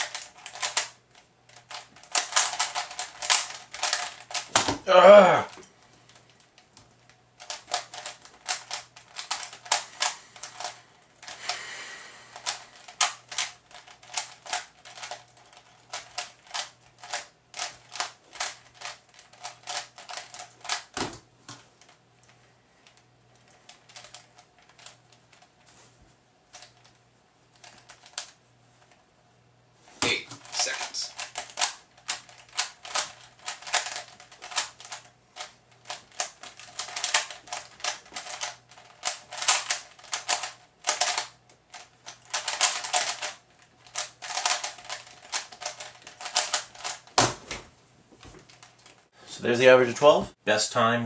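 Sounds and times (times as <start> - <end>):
puzzle cube clicking turns: 0.0 - 5.0, 7.4 - 11.6, 12.3 - 25.7, 27.6 - 29.0, 30.0 - 47.2.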